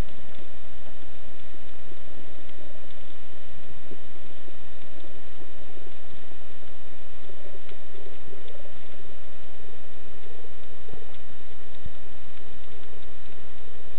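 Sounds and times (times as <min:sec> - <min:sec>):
faint ticks and crackles: 0:00.0 - 0:13.9
underwater low hum: 0:00.0 - 0:13.9.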